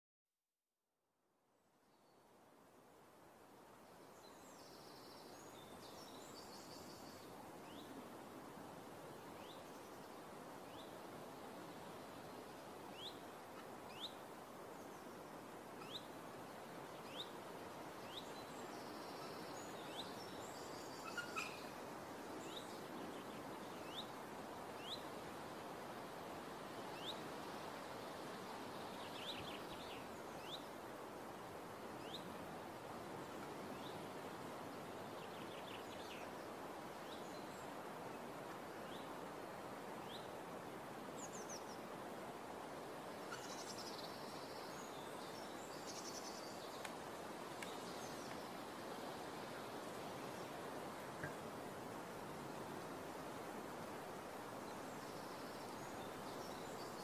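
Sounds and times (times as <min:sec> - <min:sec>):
outdoor background hiss: 0:00.9 - 0:57.0.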